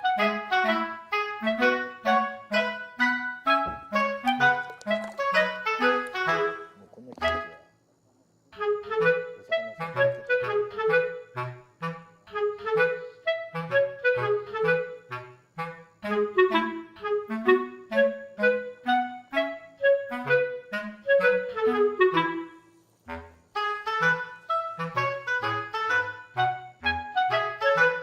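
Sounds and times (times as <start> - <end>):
lively melody over bass line: 0.0 - 7.6, 8.6 - 28.0.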